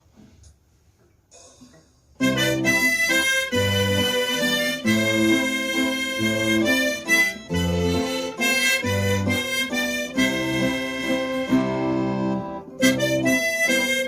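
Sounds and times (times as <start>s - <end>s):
chord and bass accompaniment: 2.2s - 14.0s
harmonica melody: 2.2s - 14.0s.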